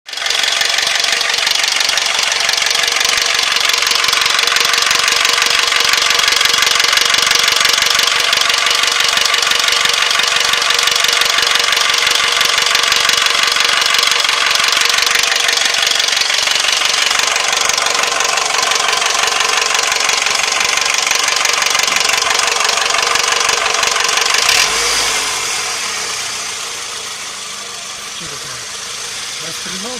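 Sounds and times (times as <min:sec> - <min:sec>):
engine running with fast knock: 0:00.1 - 0:29.9.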